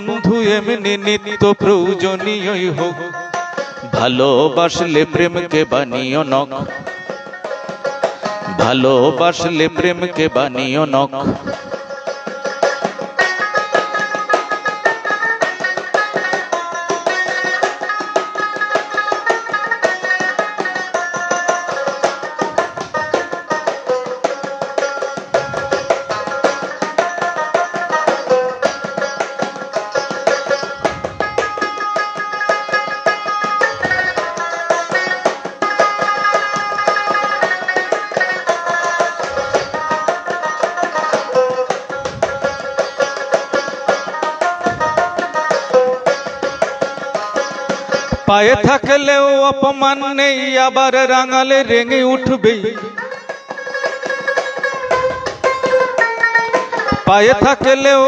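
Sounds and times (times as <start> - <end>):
two-headed hand drum: 6.2 - 50.4, 51.0 - 58.0.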